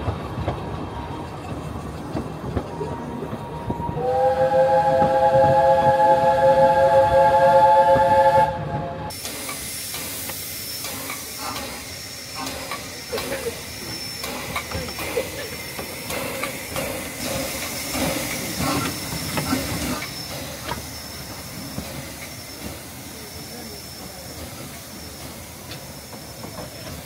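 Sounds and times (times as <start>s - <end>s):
steam hissing: 3.8s - 27.0s.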